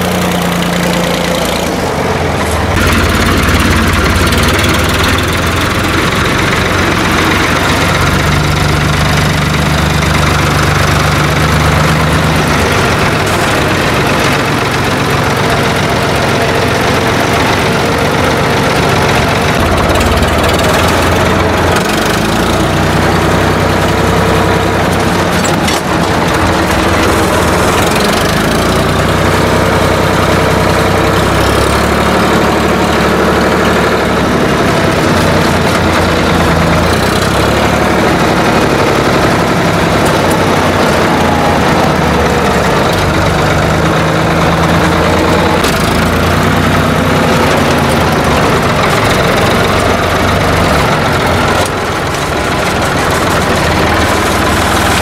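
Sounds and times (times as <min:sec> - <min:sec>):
old tractor engine running: 0:00.0 - 0:55.0.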